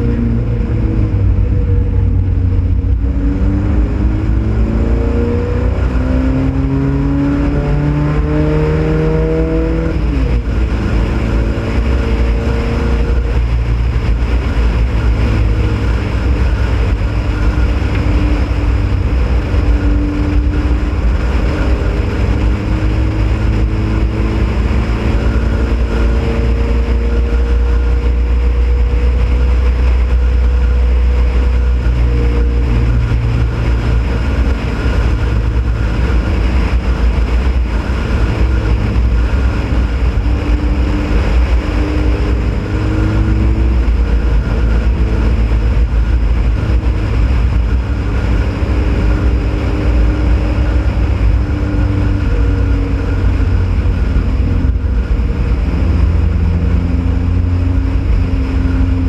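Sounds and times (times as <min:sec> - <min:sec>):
heavy low rumble: 0:00.0 - 0:59.0
race car engine running hard: 0:00.0 - 0:59.0.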